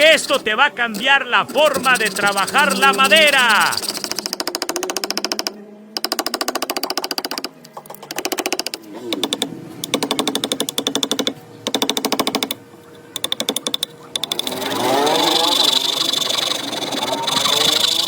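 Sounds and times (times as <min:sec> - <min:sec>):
rapid mechanical clicking: 0:00.0 - 0:18.0.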